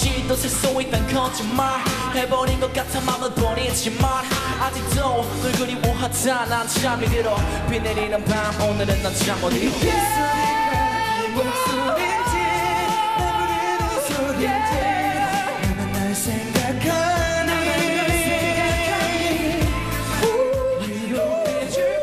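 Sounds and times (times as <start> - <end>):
man singing into microphone: 0.0 - 22.0
pop backing track with drums: 0.0 - 22.0.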